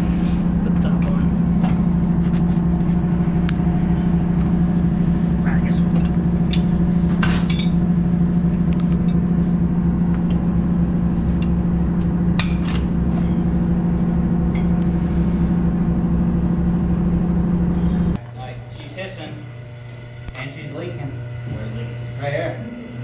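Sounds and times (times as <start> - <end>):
diesel generator droning: 0.0 - 23.0.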